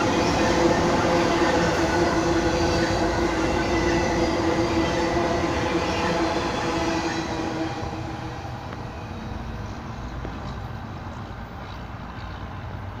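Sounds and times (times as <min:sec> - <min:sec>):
freight train rolling past: 0:00.0 - 0:13.0.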